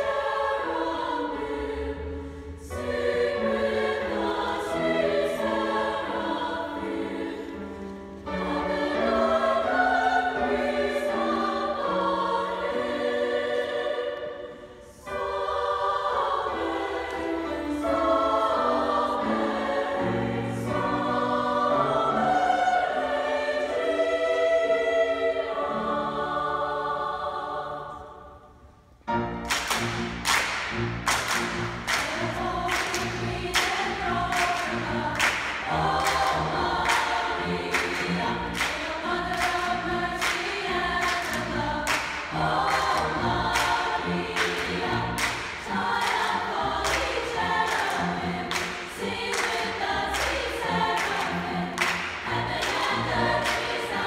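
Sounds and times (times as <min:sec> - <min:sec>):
women's choir singing: 0:00.0 - 0:28.6, 0:30.6 - 0:54.0.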